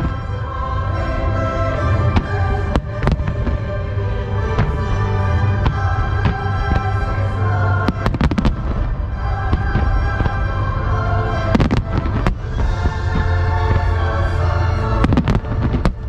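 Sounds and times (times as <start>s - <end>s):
loud music: 0.0s - 16.0s.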